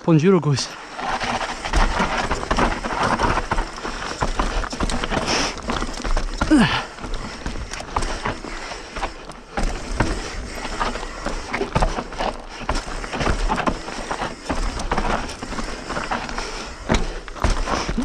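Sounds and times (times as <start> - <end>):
bike tyres rolling over dirt: 0.5 - 18.0
bike rattling over bumps: 0.6 - 18.0.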